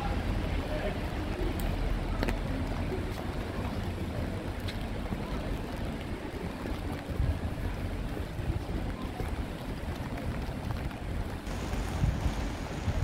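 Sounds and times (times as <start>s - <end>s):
rain on a wet street: 0.0s - 13.0s
wind rumble on microphone: 0.0s - 13.0s.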